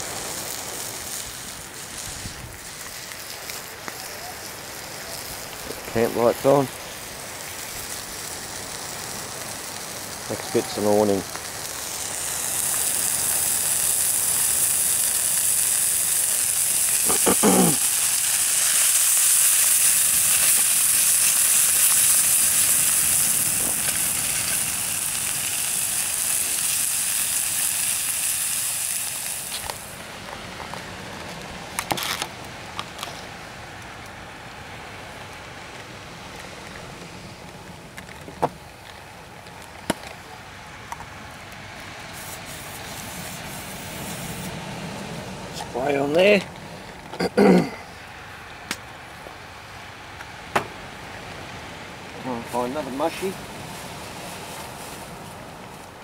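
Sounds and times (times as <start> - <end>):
fire crackling: 0.0 - 56.0
food sizzling over fire: 0.0 - 56.0.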